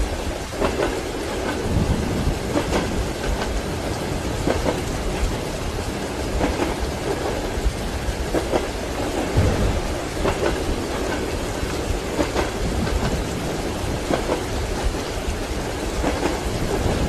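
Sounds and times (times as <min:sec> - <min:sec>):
rain hissing: 0:00.0 - 0:17.0
train carriage rumbling: 0:00.0 - 0:17.0
wheels clacking over rail joints: 0:00.0 - 0:17.0.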